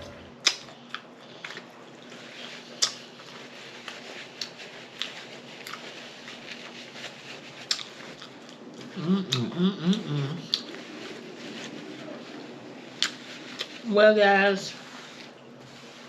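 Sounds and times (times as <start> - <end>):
chewing food: 0.0 - 13.8.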